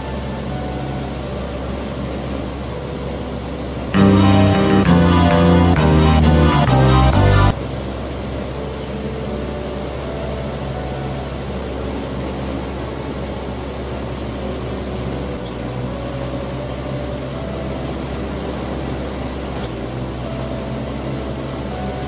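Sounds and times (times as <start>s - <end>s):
deep hum: 0.0s - 22.0s.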